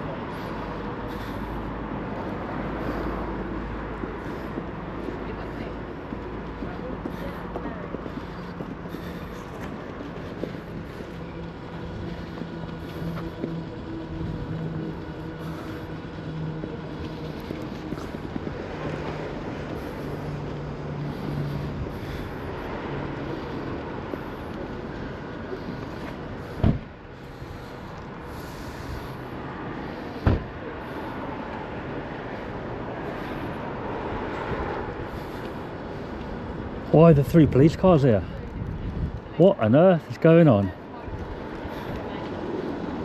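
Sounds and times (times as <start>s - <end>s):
road traffic engine hum: 0.0s - 43.0s.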